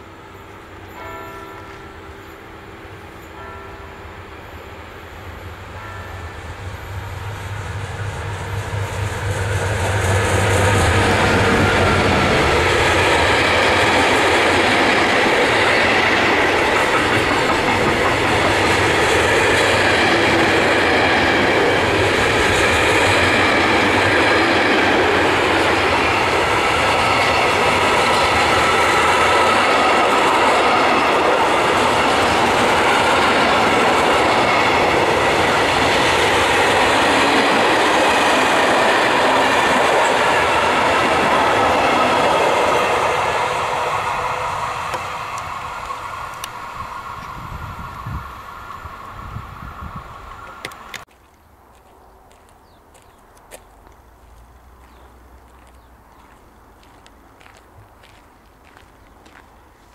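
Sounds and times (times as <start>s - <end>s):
train wheels running over rails: 5.7s - 51.1s, 51.7s - 59.6s.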